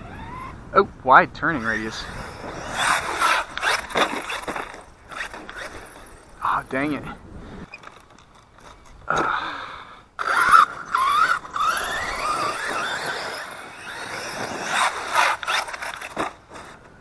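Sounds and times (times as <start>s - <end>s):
electric motor whining: 0.0s - 0.8s, 1.5s - 7.7s, 10.2s - 17.0s.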